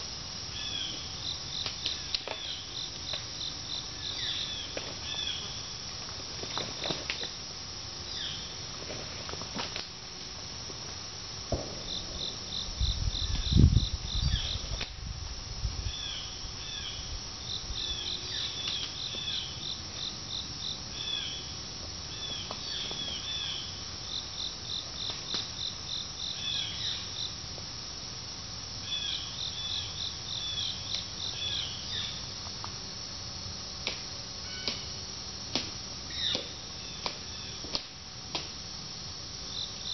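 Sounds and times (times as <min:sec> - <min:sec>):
insects chirping rapid pulses: 0:00.0 - 0:39.9.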